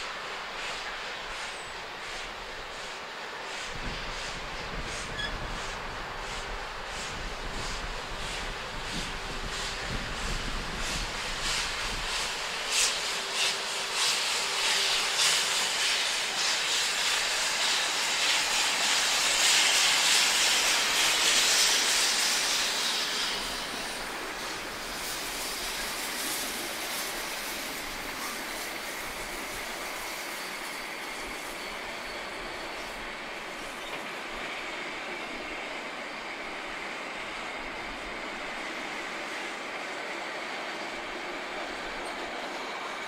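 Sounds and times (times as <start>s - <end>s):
steam locomotive exhaust beats: 0.0s - 43.0s
train coaches rolling past: 0.0s - 43.0s.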